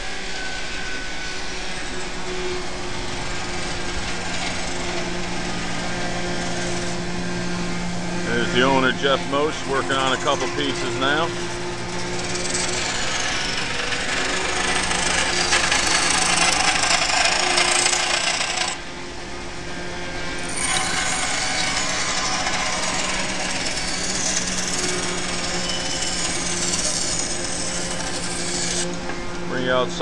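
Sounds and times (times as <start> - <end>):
sander motor hum: 0.0 - 30.0.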